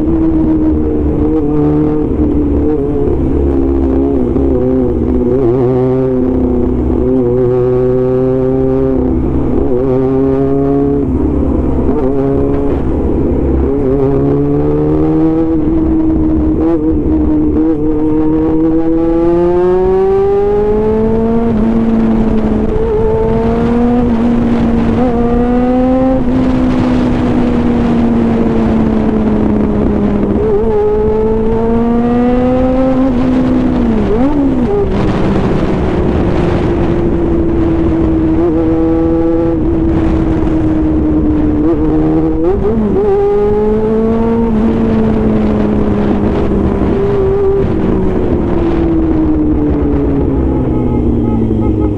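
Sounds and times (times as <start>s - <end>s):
motorcycle engine shifting gears: 0.0s - 51.9s
wind and road rush: 0.0s - 51.9s.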